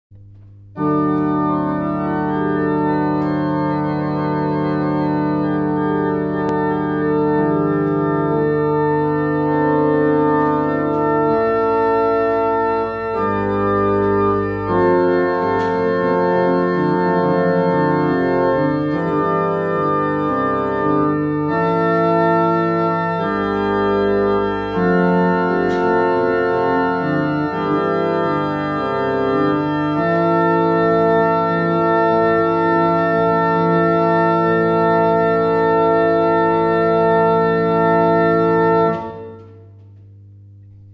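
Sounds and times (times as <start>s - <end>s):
organ chords on keyboard: 0.1s - 40.9s.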